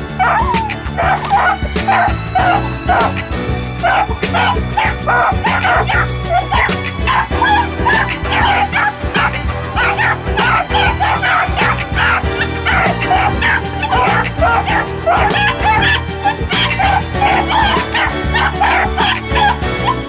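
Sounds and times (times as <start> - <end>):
background music with steady beat: 0.0 - 20.0
puppies barking excitedly: 0.0 - 20.0.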